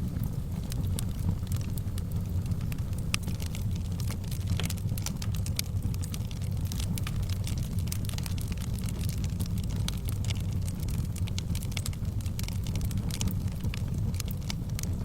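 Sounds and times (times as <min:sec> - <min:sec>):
fireplace fire crackling: 0:00.0 - 0:15.0
low fire rumble: 0:00.0 - 0:15.0.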